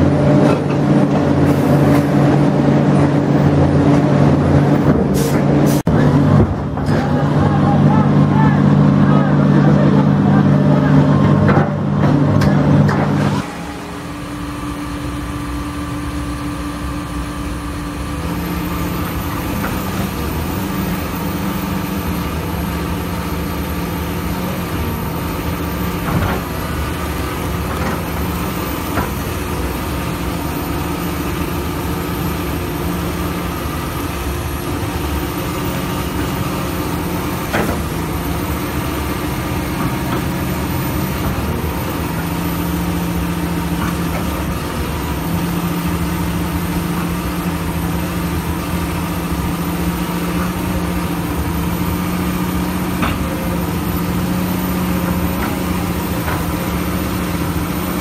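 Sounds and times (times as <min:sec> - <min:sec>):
excavator diesel hum: 0:00.0 - 0:58.0
heavy diesel engines running: 0:00.0 - 0:58.0.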